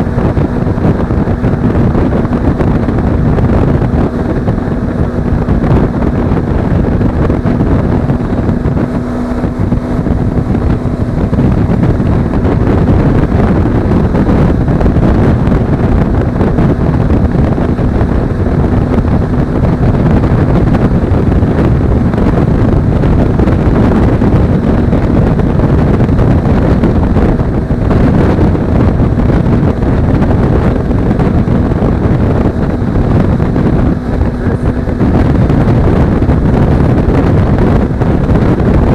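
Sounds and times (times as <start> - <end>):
motorcycle engine hum: 0.0 - 38.9
wind buffeting microphone: 0.0 - 38.9.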